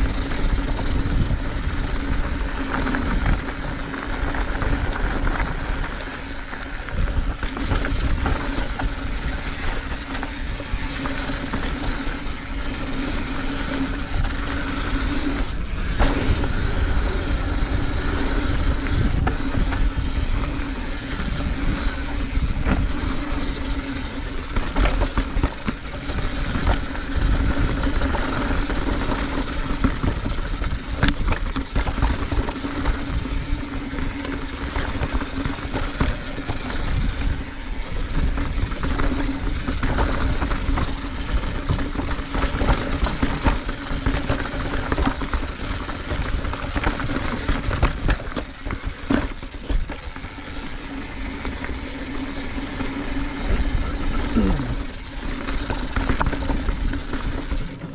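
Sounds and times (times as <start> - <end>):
tyres rolling on dirt: 0.0 - 57.9
wind on microphone: 0.0 - 57.9
bike clattering over rocks: 0.4 - 57.9.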